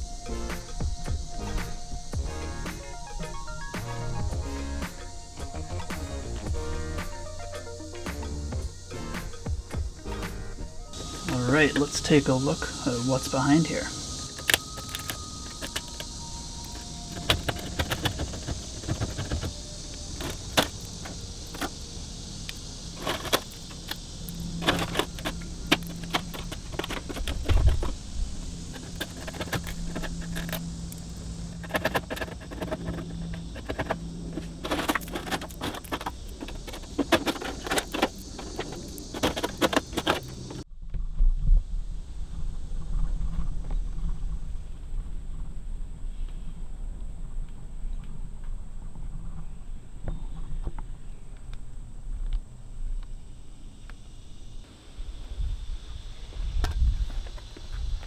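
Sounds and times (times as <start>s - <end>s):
steady high hiss: 0.0s - 40.7s, 41.4s - 58.0s.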